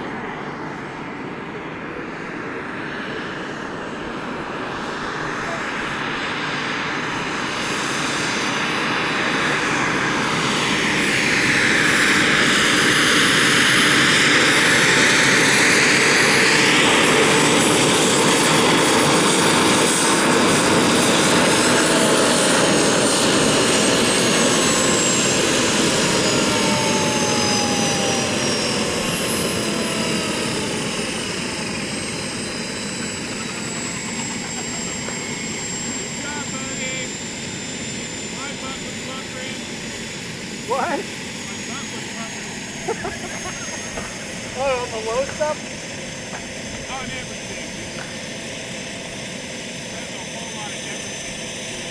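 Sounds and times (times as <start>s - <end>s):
model helicopter whirring: 2.2s - 51.9s.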